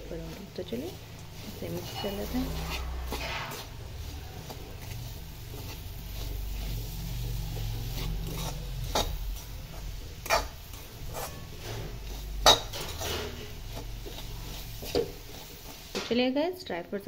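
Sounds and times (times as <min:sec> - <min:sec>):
utensil scraping metal pan: 0:00.3 - 0:16.2.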